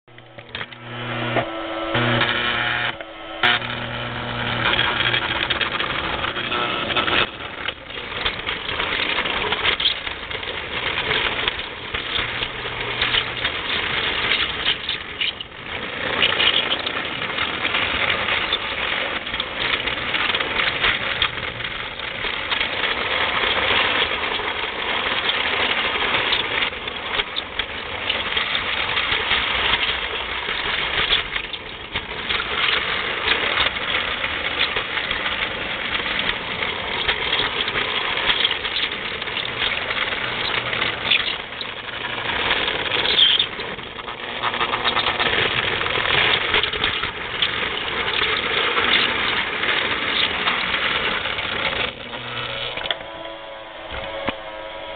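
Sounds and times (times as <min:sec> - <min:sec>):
toy train rattling on track: 0:00.0 - 0:54.9
toy train whine: 0:00.0 - 0:54.9.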